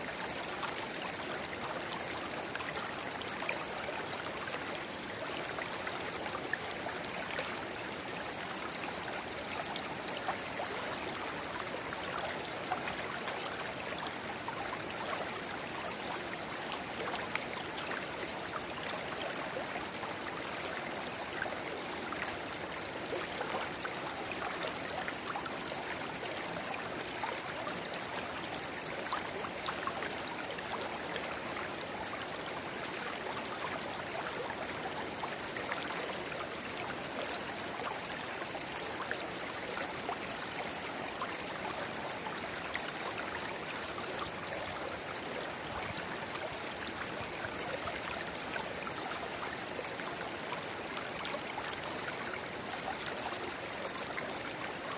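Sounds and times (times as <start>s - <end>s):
shallow river babbling: 0.0s - 54.9s.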